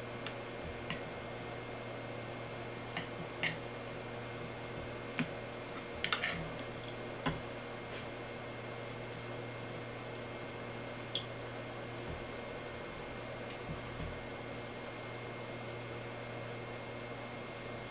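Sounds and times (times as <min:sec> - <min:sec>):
low background hum: 0:00.0 - 0:17.9.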